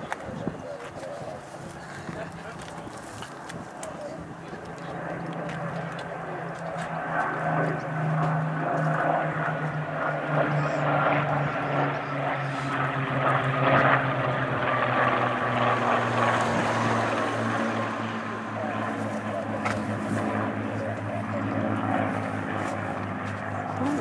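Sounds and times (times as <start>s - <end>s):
propeller planes flying past: 0.0s - 24.0s.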